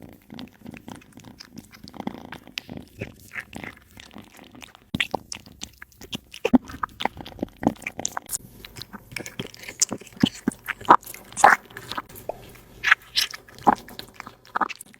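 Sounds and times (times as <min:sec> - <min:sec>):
cat chewing food: 0:00.0 - 0:14.9.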